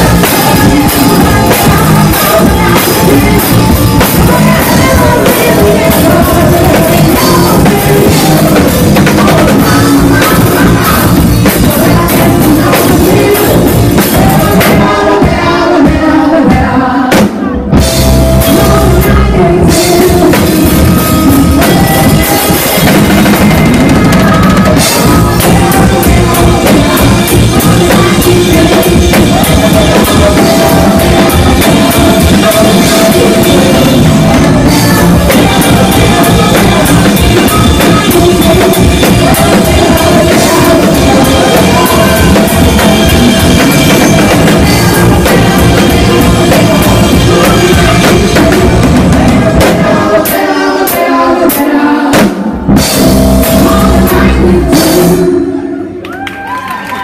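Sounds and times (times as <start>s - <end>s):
drum kit: 0.0s - 56.2s
electric guitar: 0.0s - 57.0s
live rock band: 0.0s - 57.0s.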